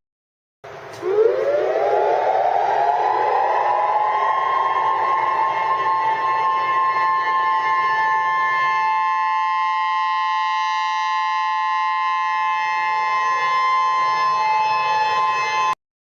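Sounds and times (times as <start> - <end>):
two-tone electronic alarm: 1.0 - 15.8.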